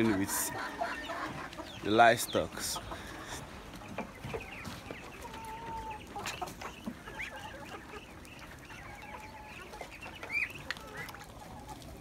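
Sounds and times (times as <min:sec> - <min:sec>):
chickens clucking: 0:00.0 - 0:12.0
drawn-out chicken call: 0:00.0 - 0:12.0.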